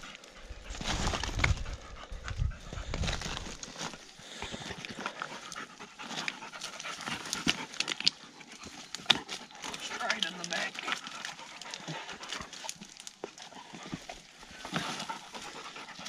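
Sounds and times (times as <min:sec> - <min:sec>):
dogs panting: 0:00.0 - 0:16.0
rustling over loose rock: 0:00.0 - 0:16.0.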